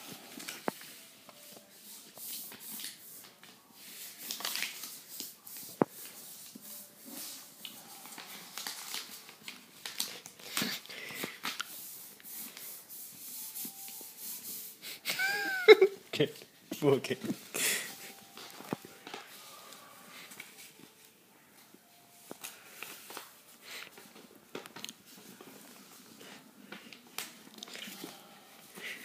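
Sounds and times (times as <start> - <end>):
paper rustling and crinkling: 0.0 - 14.5, 16.2 - 21.2, 22.2 - 29.0.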